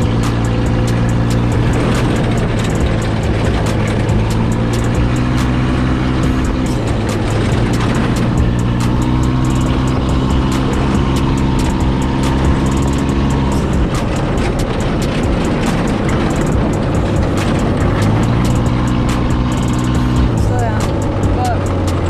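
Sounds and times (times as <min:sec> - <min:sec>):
off-road buggy engine running: 0:00.0 - 0:22.0.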